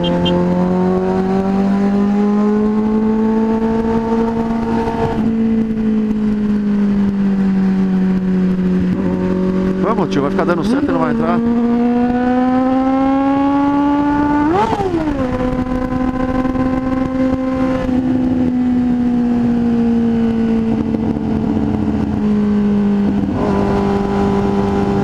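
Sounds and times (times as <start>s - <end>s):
motorcycle engine revving: 0.0s - 25.0s
wind noise: 2.1s - 25.0s.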